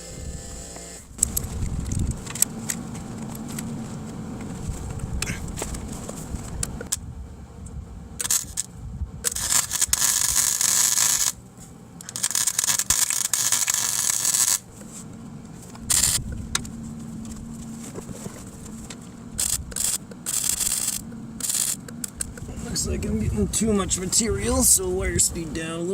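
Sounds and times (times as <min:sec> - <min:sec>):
welder arc crackling: 0:00.7 - 0:07.0, 0:08.2 - 0:25.9.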